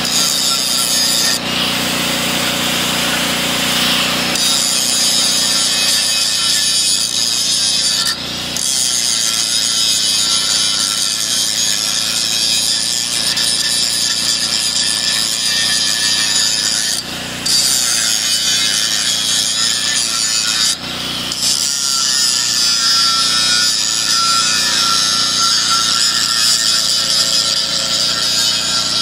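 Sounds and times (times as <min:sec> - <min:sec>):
angle grinder grinding steel: 0:00.0 - 0:29.0.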